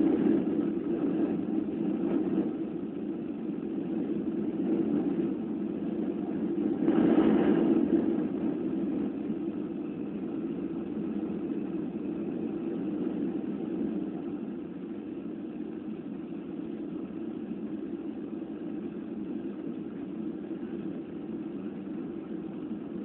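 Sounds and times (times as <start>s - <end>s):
airplane cabin engine noise: 0.0s - 23.0s.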